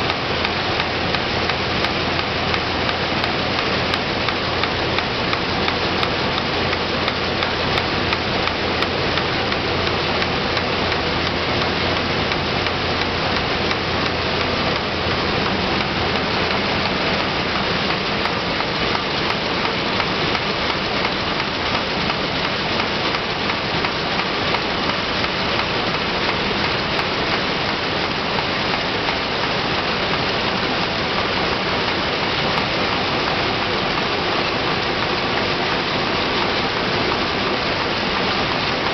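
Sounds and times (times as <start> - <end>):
machine running: 0.0 - 38.9.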